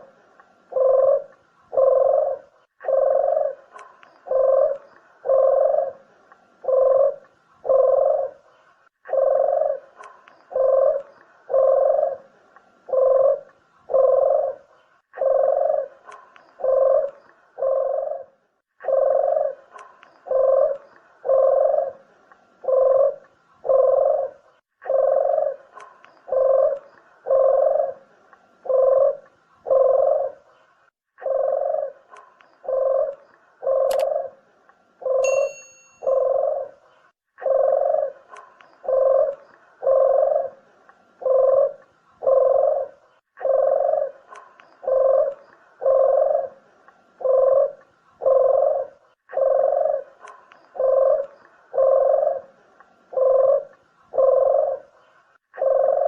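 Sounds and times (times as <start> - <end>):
collared dove cooing: 0.0 - 30.6, 31.2 - 56.0.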